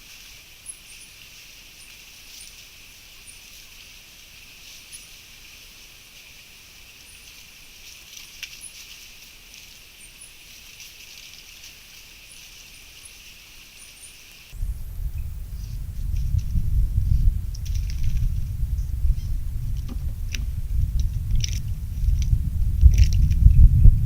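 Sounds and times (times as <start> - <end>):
high-pitched insect chorus: 0.0 - 22.4.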